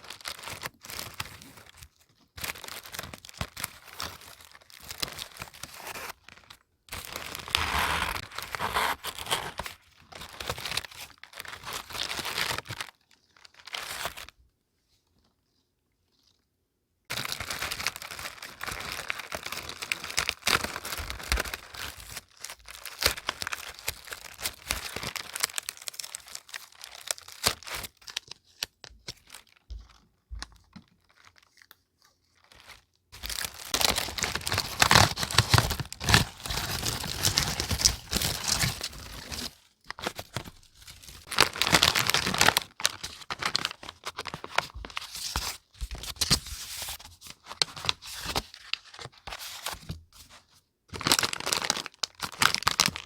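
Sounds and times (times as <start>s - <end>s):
paper and packaging crinkling: 0.0s - 14.3s, 17.1s - 50.4s, 51.0s - 53.0s.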